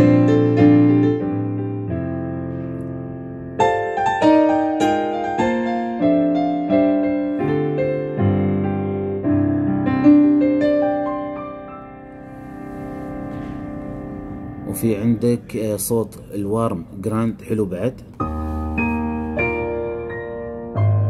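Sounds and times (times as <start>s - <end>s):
slow piano chords: 0.0s - 17.0s, 18.0s - 21.0s.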